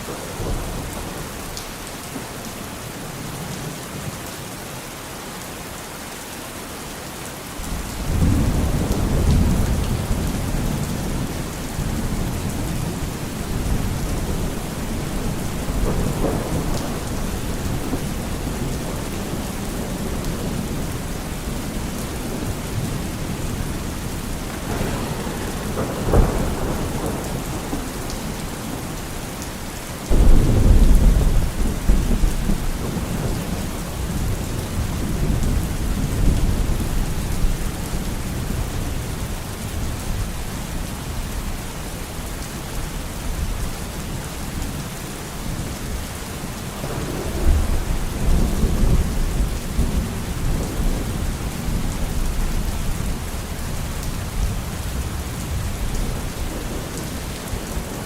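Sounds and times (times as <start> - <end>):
steady rain: 0.0 - 58.0
thunder rumbling: 7.6 - 41.6, 45.4 - 58.0.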